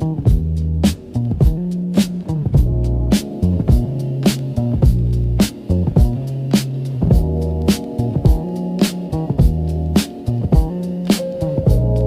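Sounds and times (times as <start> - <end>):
funk music with drums bass guitar: 0.0 - 12.0.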